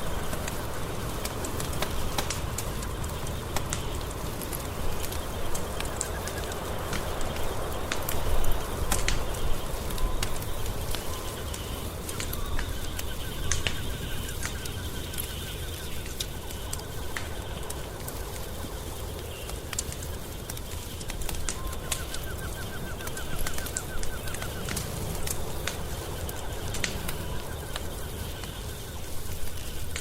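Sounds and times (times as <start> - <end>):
rapid trill of ticks: 0.0 - 30.0
wood fire crackling and popping: 0.0 - 30.0.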